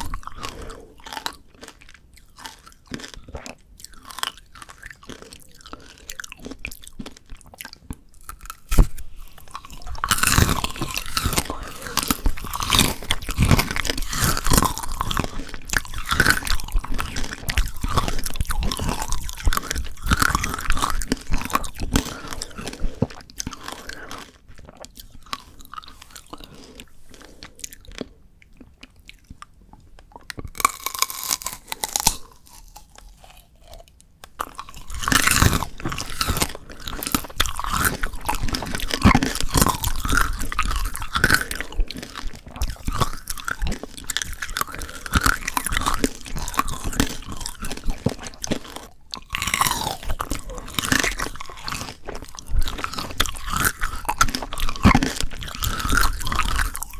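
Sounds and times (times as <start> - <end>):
crunching candy coated grapes: 0.0 - 56.9.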